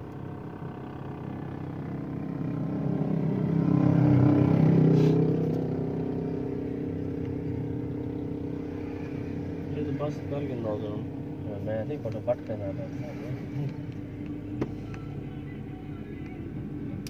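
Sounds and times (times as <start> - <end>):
car cabin engine and road drone: 0.0 - 17.0.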